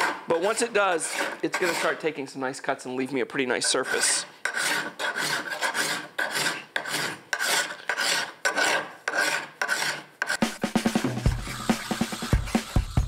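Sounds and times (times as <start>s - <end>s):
file rasping on steel: 0.0s - 2.2s, 3.6s - 10.6s, 11.3s - 13.0s.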